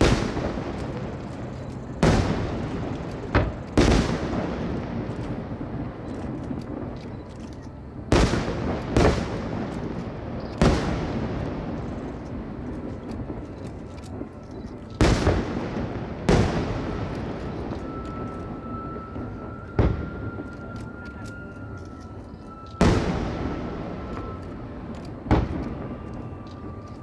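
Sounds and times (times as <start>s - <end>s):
fireworks booming: 0.0s - 7.0s, 7.9s - 21.0s, 22.5s - 26.8s
steady background din: 0.0s - 27.0s.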